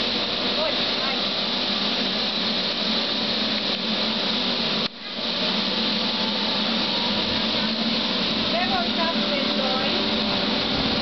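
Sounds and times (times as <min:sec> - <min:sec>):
low hum: 0:00.0 - 0:11.0
train machinery whirring: 0:00.0 - 0:11.0.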